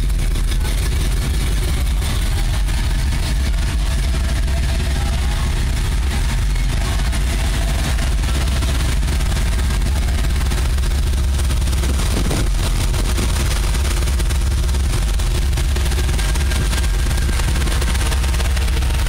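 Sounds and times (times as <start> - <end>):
truck engine running loudly: 0.0 - 19.0.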